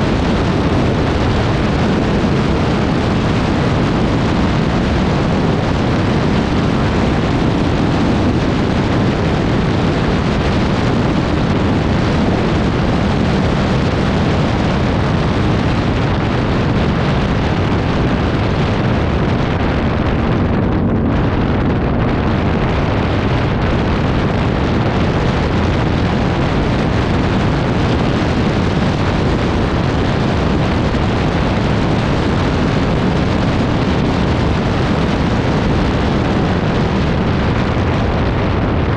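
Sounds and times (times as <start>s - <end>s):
atv engine running: 0.0s - 32.5s
wind buffeting microphone: 0.0s - 38.9s.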